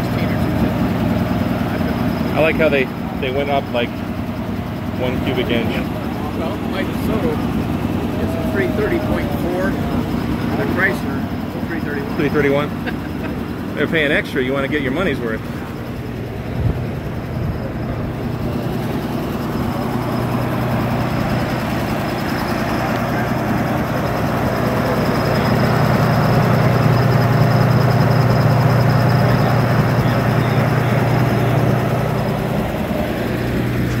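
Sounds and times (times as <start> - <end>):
fire truck engine idling: 0.0 - 34.0.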